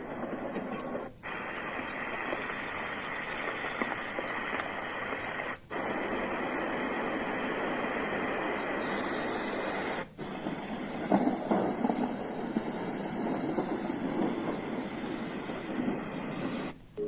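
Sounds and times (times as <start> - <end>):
white noise hiss: 0.0 - 17.0.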